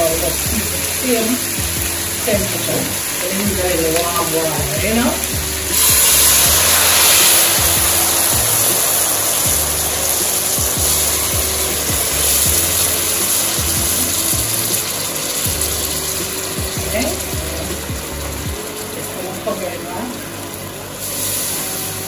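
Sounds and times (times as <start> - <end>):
steady hiss: 0.0 - 22.0
background music with beat: 0.1 - 19.2.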